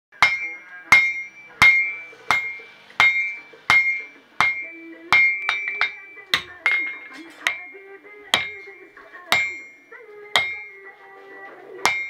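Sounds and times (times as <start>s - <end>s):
anvil ringing: 0.2s - 10.9s
hammer striking iron on anvil: 0.2s - 10.9s, 11.8s - 12.0s.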